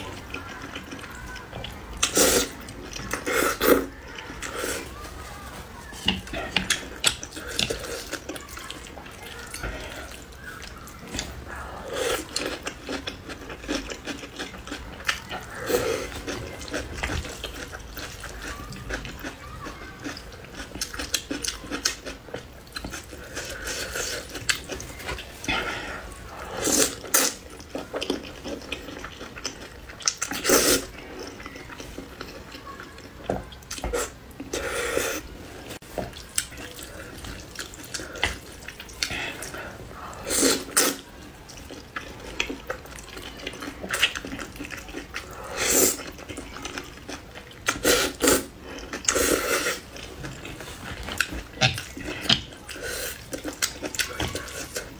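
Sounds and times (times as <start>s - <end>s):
chewing and slurping noodles: 0.0s - 5.0s, 5.6s - 54.9s.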